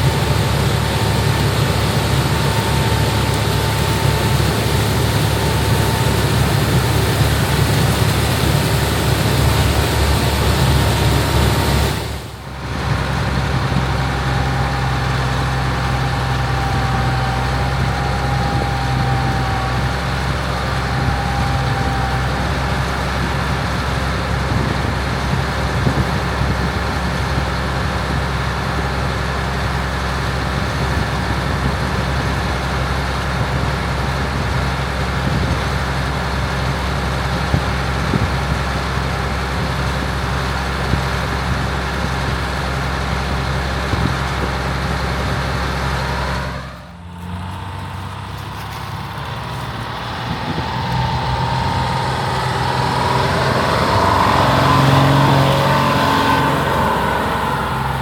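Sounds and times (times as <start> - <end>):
machine with rising whine: 0.0 - 42.5, 43.6 - 58.0
combine harvester diesel engine: 0.0 - 58.0.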